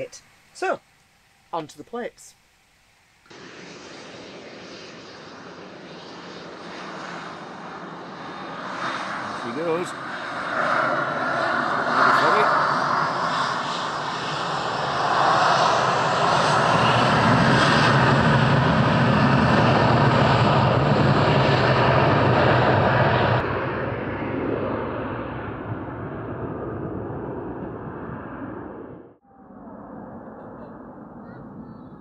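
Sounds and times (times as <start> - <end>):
jet engines roaring: 3.2 - 32.0.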